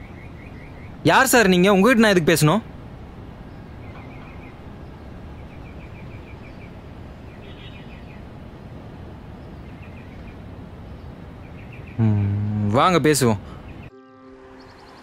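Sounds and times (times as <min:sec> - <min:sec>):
low background hiss: 0:00.0 - 0:13.9
small birds chirping: 0:00.0 - 0:13.9.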